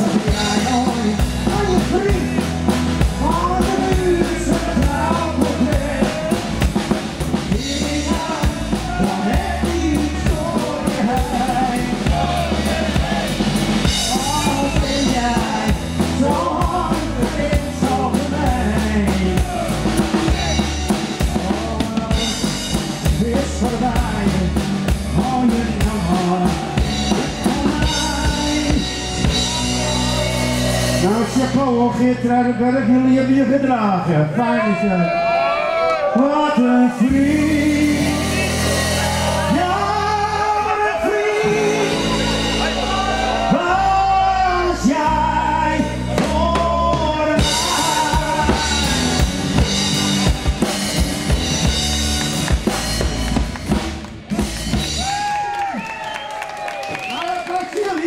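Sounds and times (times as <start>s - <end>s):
drum kit steady beat: 0.0s - 32.0s, 37.0s - 45.1s, 45.8s - 55.9s
bass guitar: 0.0s - 57.2s.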